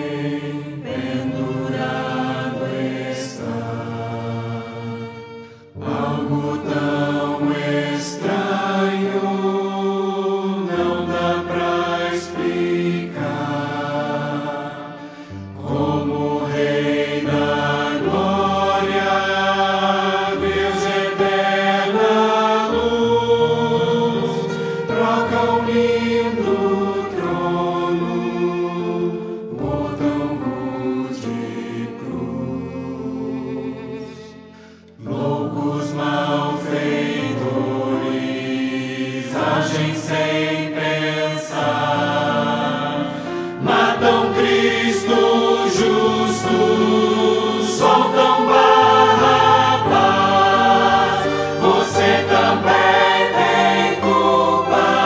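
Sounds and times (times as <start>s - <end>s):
choir singing: 0.0s - 55.0s
piano accompaniment: 0.0s - 55.0s.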